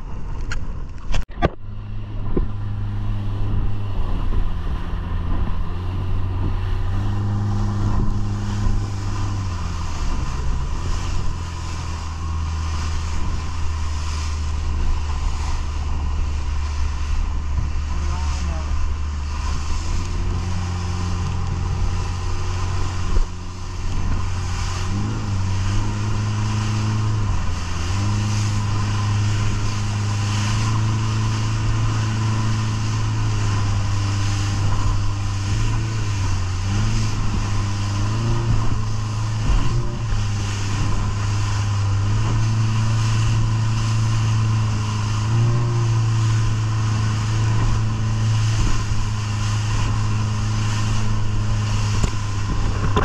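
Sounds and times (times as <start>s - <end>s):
boat engine running: 0.0s - 53.0s
wind and water rushing: 0.0s - 53.0s.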